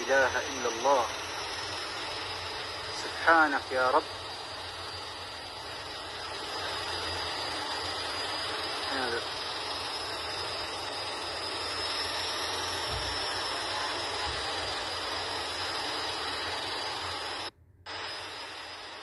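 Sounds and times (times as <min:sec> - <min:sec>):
steady hissing noise: 0:00.0 - 0:19.0.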